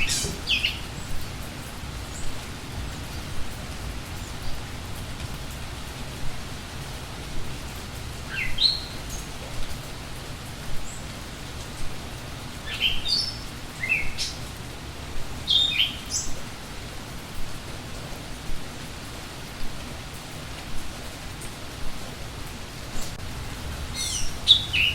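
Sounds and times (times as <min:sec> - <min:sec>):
songbirds chirping: 0:00.0 - 0:24.9
steady rain: 0:00.0 - 0:24.9.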